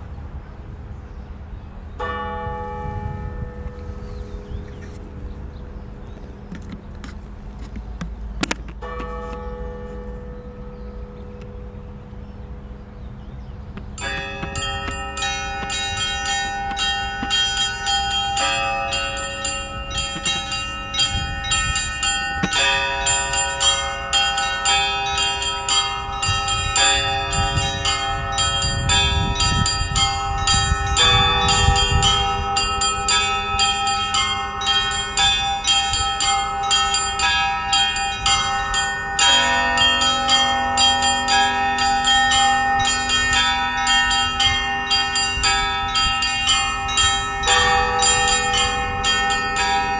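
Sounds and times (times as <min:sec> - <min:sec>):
large bells lingering tones: 0:00.0 - 0:06.6, 0:08.2 - 0:49.9
small church bells ringing: 0:01.4 - 0:06.5, 0:08.8 - 0:49.9
deep bell tone: 0:08.8 - 0:49.9.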